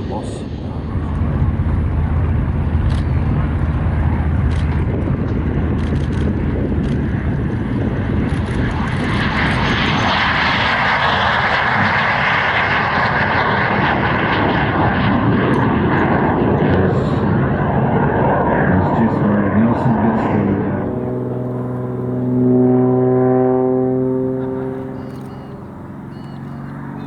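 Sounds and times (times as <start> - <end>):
jet flying past roaring: 0.0 - 27.0.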